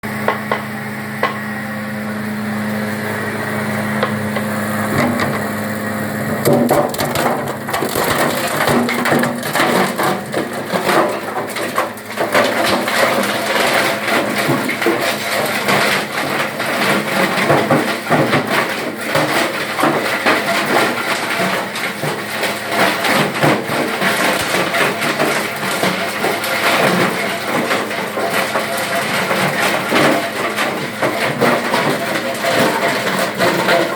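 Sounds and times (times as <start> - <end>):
wood crusher machine hum: 0.0 - 33.9
wood crackling and crunching: 6.2 - 33.9.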